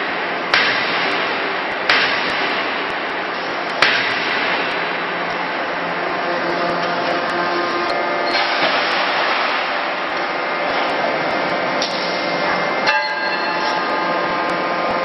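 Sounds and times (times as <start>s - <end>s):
industrial machinery whirring: 0.0s - 15.0s.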